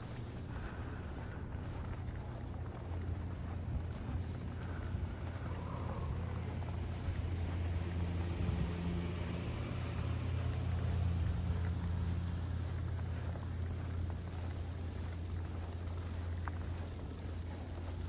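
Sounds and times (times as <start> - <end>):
low rumble of vehicle engines: 0.0 - 18.0.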